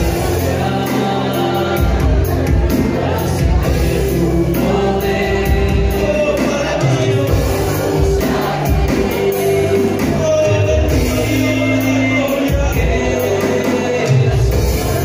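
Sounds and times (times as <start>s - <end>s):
people singing: 0.0s - 15.0s.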